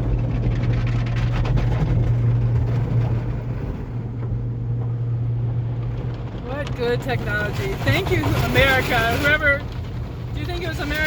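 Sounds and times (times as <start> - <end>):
low machinery hum: 0.0 - 11.0
water spraying on car: 0.0 - 11.0.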